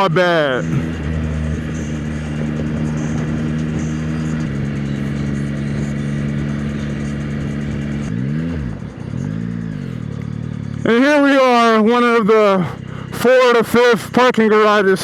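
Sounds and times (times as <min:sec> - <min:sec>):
engine revving: 0:00.0 - 0:15.0
motorcycle engine cruising: 0:00.0 - 0:15.0.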